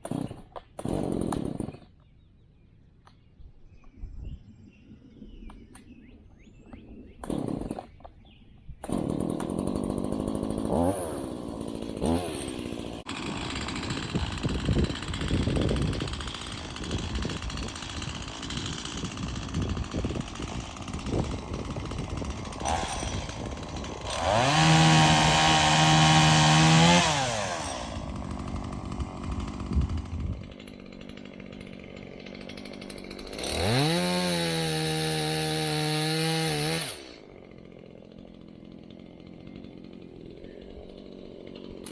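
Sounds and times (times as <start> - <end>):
chainsaw cutting branch: 0.0 - 2.0, 7.2 - 8.0, 8.8 - 41.9.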